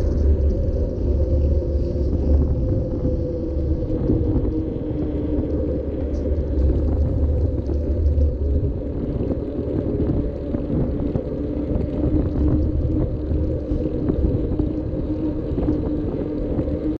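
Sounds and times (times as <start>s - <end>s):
low hum: 0.0s - 17.0s
tyre noise on wet street: 0.0s - 17.0s
wind rumbling on microphone: 0.0s - 17.0s.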